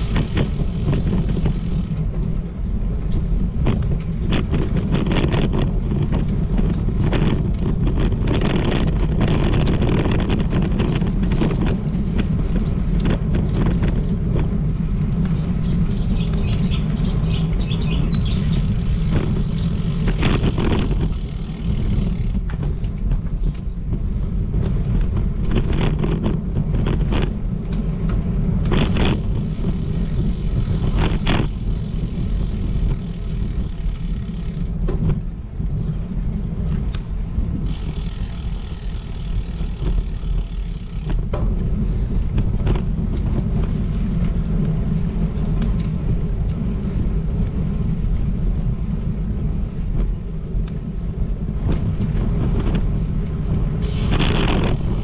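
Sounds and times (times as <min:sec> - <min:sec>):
rolling rumble along a path: 0:00.0 - 0:55.0
wind on microphone: 0:00.0 - 0:55.0.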